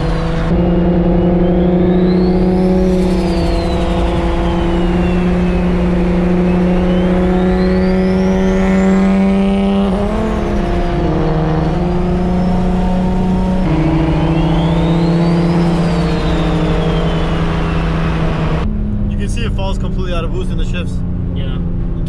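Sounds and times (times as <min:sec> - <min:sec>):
turbo whine and whistle: 0:00.0 - 0:20.9
car engine drone: 0:00.0 - 0:22.0.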